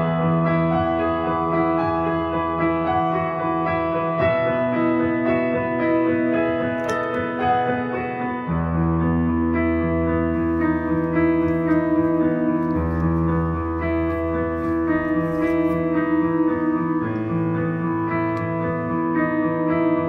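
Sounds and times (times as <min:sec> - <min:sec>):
piano chords with bass line: 0:00.0 - 0:20.0.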